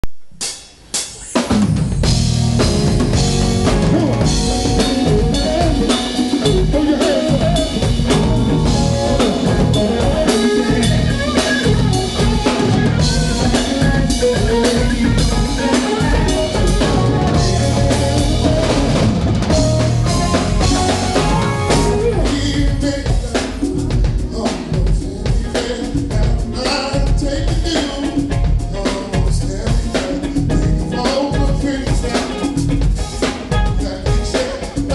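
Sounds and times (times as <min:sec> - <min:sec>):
live band playing: 0:00.3 - 0:34.9
bass drum: 0:01.5 - 0:34.9.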